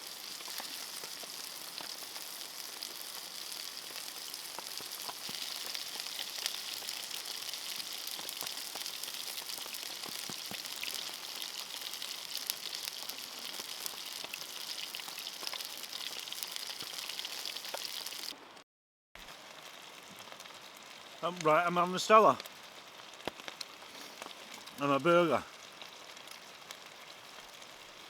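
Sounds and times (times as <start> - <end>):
meat sizzling in a pan: 0.0 - 18.4, 19.2 - 28.0.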